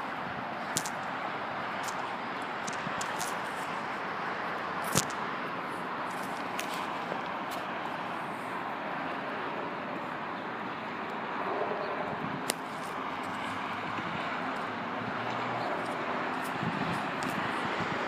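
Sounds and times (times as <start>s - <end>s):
passing vehicle engine hum: 0.0s - 18.0s
road traffic hiss: 0.0s - 18.0s.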